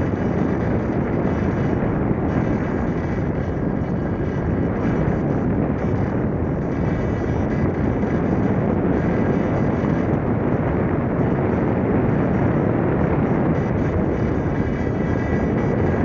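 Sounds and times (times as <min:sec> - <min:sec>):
airflow rushing across microphone: 0:00.0 - 0:16.0.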